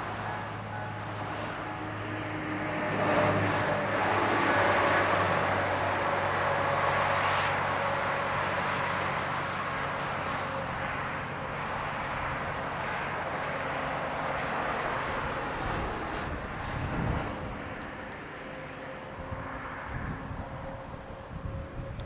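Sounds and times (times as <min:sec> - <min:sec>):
car passing: 0:00.0 - 0:21.9
diesel truck passing: 0:00.0 - 0:22.0.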